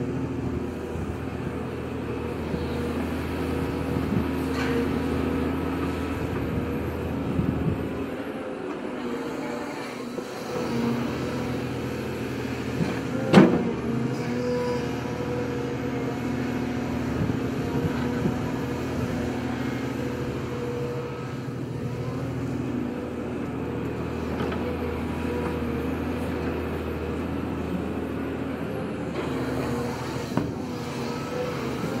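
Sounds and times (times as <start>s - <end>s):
excavator diesel engine under load: 0.0s - 32.0s.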